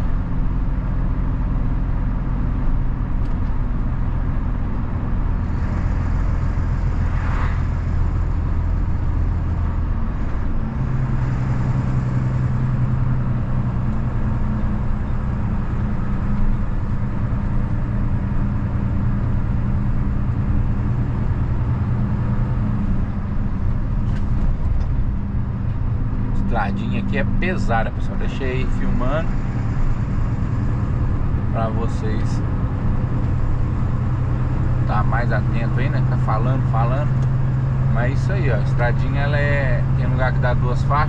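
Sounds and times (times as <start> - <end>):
truck diesel engine under load: 0.0 - 41.0.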